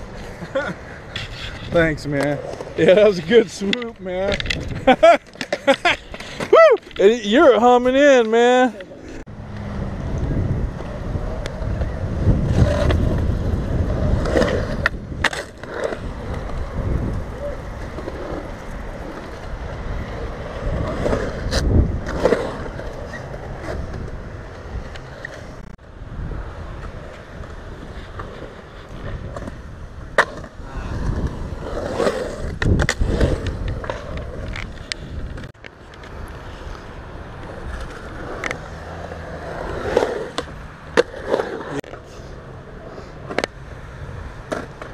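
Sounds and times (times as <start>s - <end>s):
skateboard wheels rolling on concrete: 0.0s - 44.9s.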